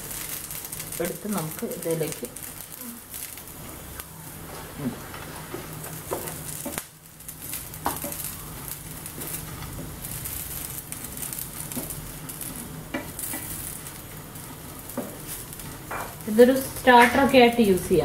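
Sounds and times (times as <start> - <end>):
oil sizzling in a frying pan: 0.0 - 18.0.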